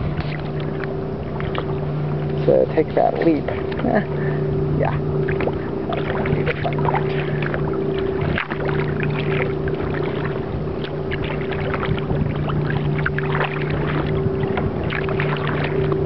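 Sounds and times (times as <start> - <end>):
motorboat engine drone: 0.0 - 16.0
water splashing against kayak: 0.0 - 16.0.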